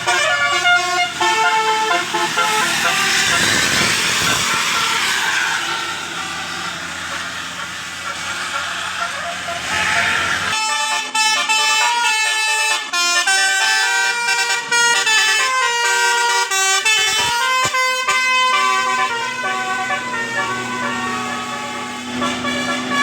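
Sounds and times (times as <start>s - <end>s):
bus musical air horn: 0.0s - 23.0s.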